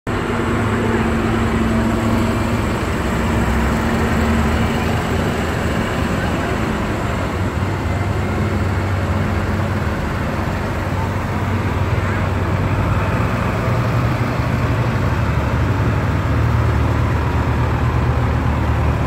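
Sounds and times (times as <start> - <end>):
tractor engines running: 0.1 - 19.0.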